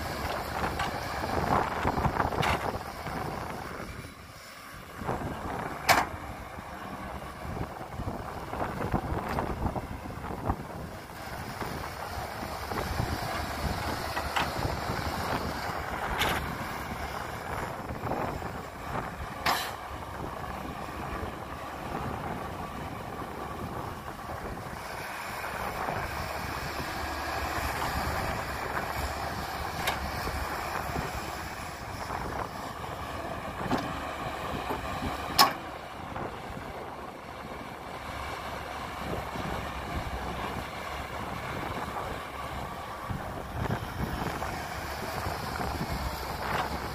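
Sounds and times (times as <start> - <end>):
wind on microphone: 0.0 - 4.2, 4.8 - 46.9
excavator diesel engine running: 0.0 - 46.9
hydraulics working: 0.0 - 46.9.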